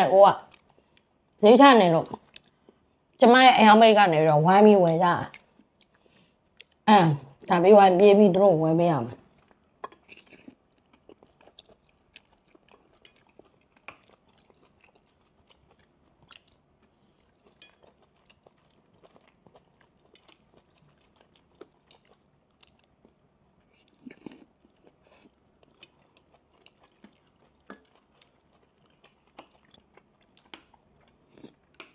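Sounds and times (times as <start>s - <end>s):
quiet chewing: 0.5s - 1.1s, 2.1s - 3.0s, 5.3s - 6.8s, 9.2s - 31.9s.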